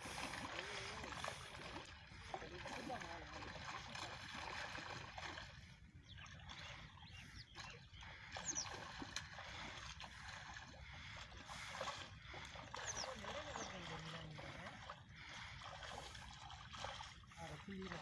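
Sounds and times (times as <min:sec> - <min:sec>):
water sloshing around wading legs: 0:00.0 - 0:18.0.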